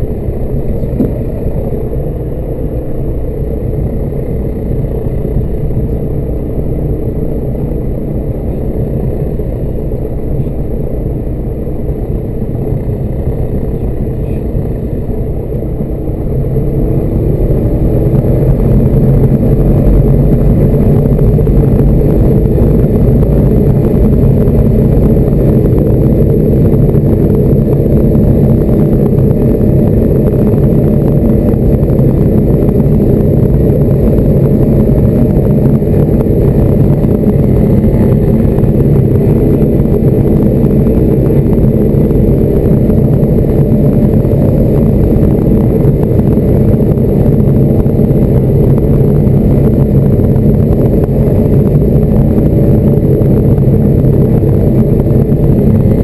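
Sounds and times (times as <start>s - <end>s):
aircraft engine and propeller running: 0.0s - 56.0s.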